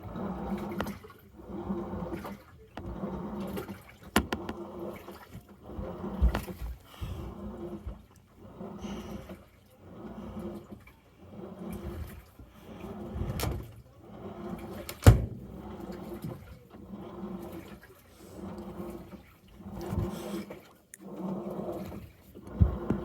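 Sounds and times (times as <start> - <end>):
washing machine water sloshing: 0.0 - 23.0.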